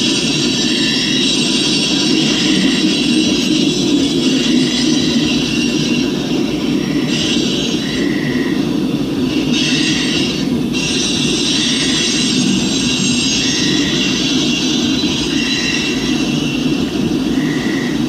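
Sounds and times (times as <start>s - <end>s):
freight train wheels rumbling: 0.0s - 18.0s
wheel squeals: 0.0s - 18.0s.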